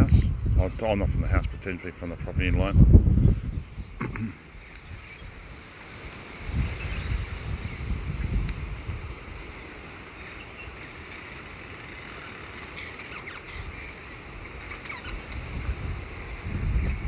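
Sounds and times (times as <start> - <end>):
wind buffeting microphone: 0.0 - 10.9, 13.4 - 17.0.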